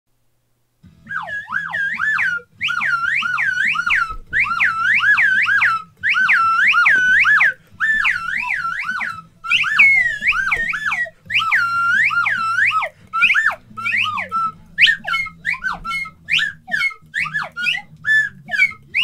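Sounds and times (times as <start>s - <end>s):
slide whistle swooping: 1.0s - 19.0s.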